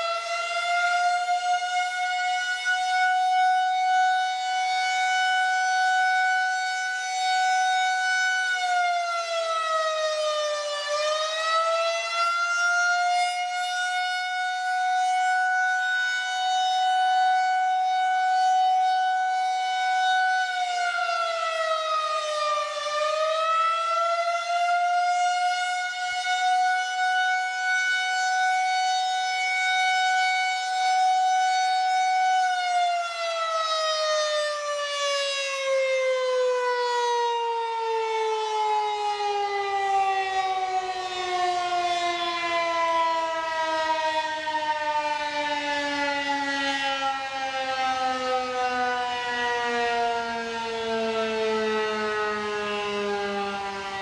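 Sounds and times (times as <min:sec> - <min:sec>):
siren steady tone: 0:00.0 - 0:54.0.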